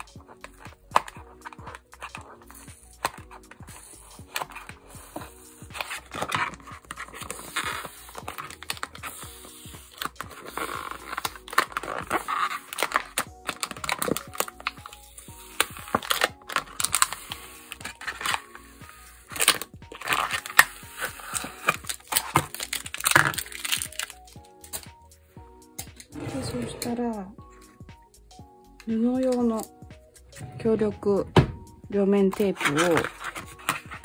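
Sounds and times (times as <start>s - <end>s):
soft background music: 0.0s - 34.0s.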